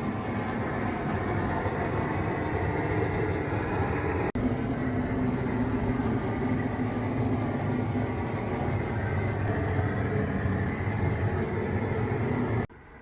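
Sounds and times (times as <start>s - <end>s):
faint steady hum: 0.0s - 13.0s
motor drone: 0.0s - 13.0s.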